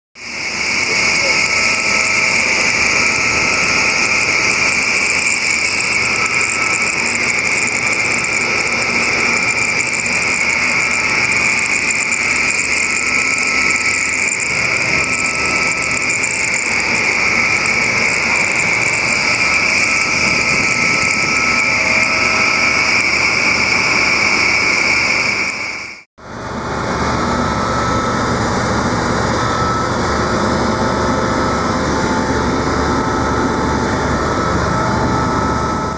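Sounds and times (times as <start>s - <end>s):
fan hissing rush: 0.2s - 35.7s
faint fan whistle: 0.3s - 26.0s, 27.3s - 35.9s.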